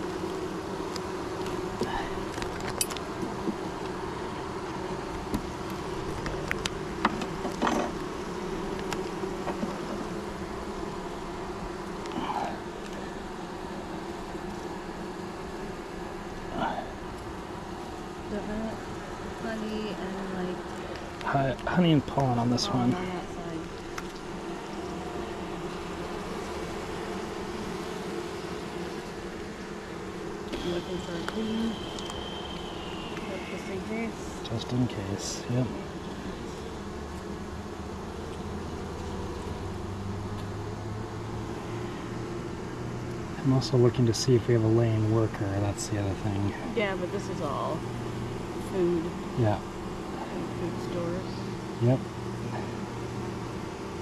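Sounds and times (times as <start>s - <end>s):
bees humming: 0.0s - 54.0s.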